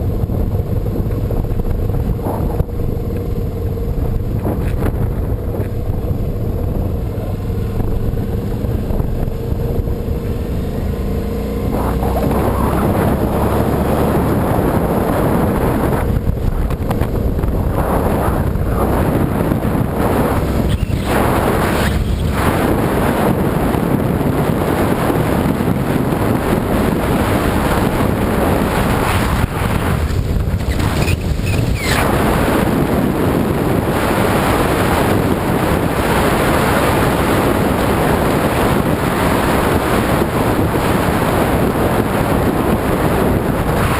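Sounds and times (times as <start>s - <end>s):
motorbike engine running: 0.0s - 43.9s
wind rushing over microphone: 0.0s - 43.9s.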